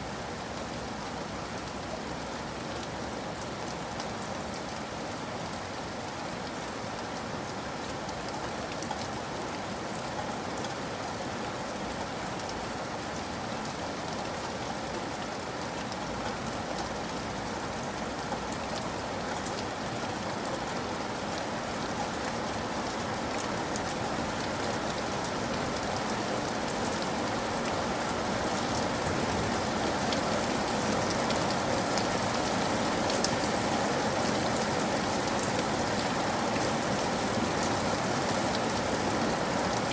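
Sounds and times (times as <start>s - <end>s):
heavy rain falling: 0.0s - 39.9s
raindrops pattering on surface: 0.0s - 39.9s.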